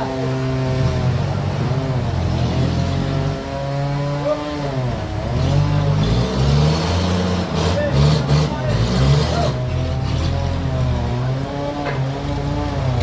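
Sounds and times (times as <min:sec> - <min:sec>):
bandsaw engine running: 0:00.0 - 0:13.0.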